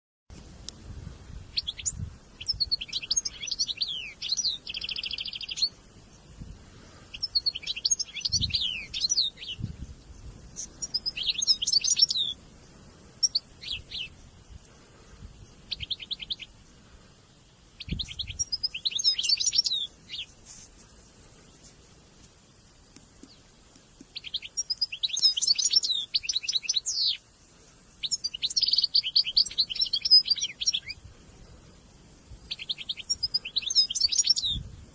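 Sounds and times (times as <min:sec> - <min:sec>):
songbird chirping and trilling: 0:01.5 - 0:17.0, 0:17.7 - 0:21.7, 0:22.4 - 0:31.8, 0:32.4 - 0:34.7.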